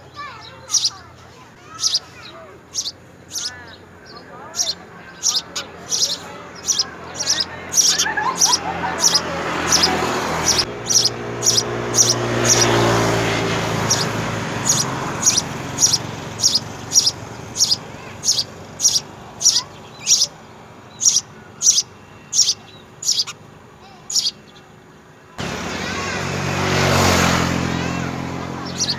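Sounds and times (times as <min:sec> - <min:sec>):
small bird chirping: 0:00.0 - 0:24.8, 0:26.8 - 0:28.9.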